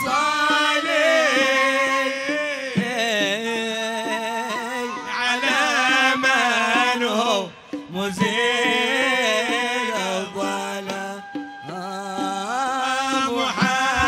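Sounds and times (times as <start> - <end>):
drum strokes: 0.0 - 14.0
men singing: 0.0 - 14.0.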